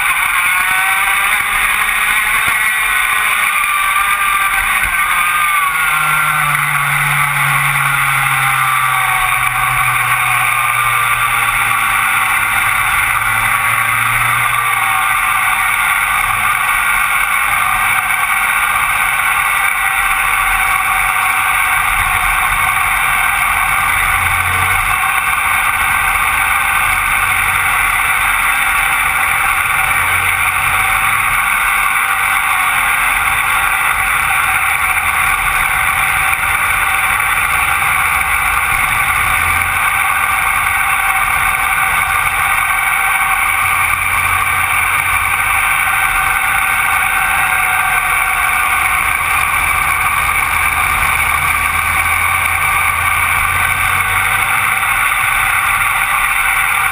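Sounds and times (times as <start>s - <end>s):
kart engine droning: 0.0s - 56.9s
other karts nearby: 0.0s - 56.9s.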